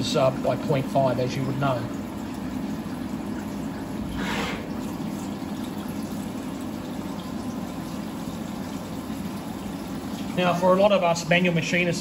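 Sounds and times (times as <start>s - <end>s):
coolant splashing: 0.0s - 12.0s
milling machine humming: 0.0s - 12.0s.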